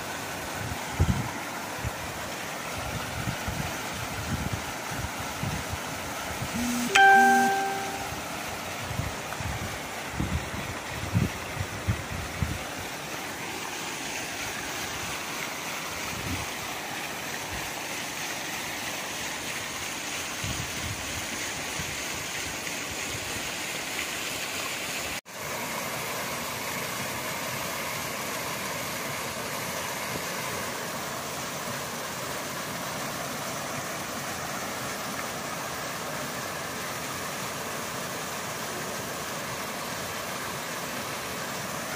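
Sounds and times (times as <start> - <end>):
paddle wheel aerator churning water: 0.0 - 41.9.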